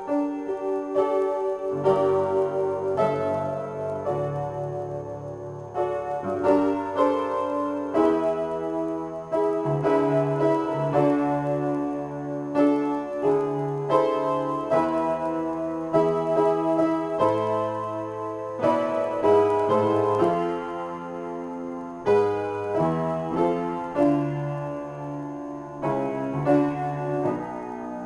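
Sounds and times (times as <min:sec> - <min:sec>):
upright piano playing chords: 0:00.0 - 0:28.0.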